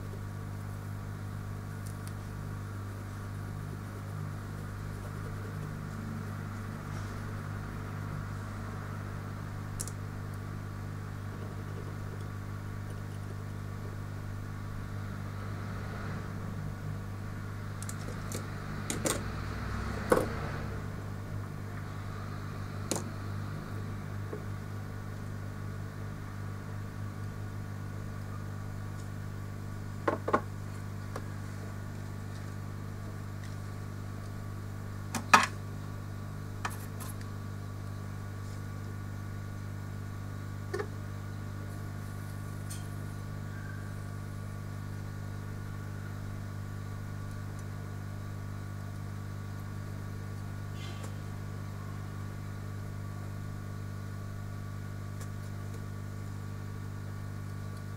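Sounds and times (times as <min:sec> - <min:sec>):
low electrical hum: 0:00.0 - 0:57.9.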